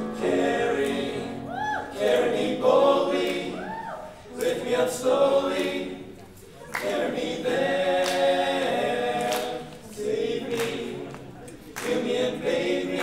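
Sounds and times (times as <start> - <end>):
male a cappella group singing: 0.0 - 3.7, 4.3 - 6.2, 6.8 - 13.0.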